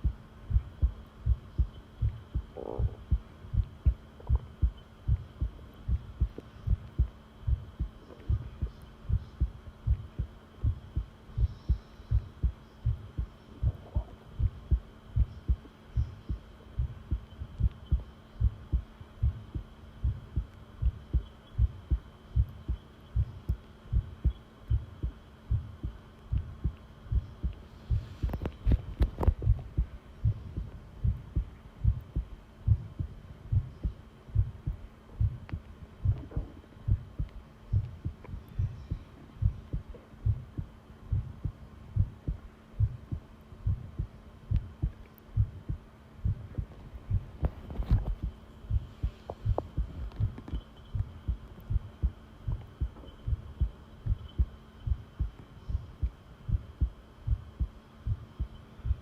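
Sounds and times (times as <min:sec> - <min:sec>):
faint steady hum: 0:00.0 - 0:59.0
human heartbeat thuds: 0:00.0 - 0:59.0.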